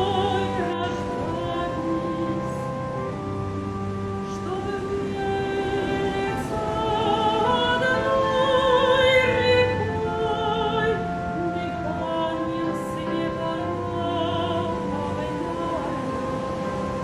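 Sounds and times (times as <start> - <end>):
operatic singing: 0.0 - 3.4, 4.2 - 16.6
classical accompaniment: 0.0 - 17.0.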